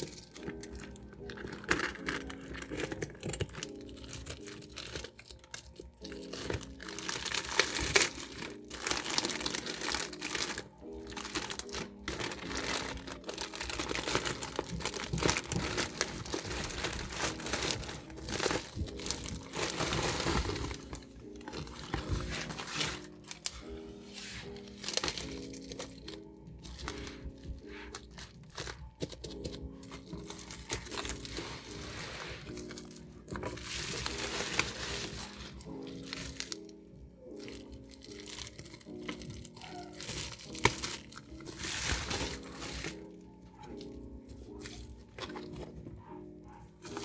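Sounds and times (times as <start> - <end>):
plastic wrapping crinkling: 0.0 - 47.0
soft background music: 0.0 - 47.0.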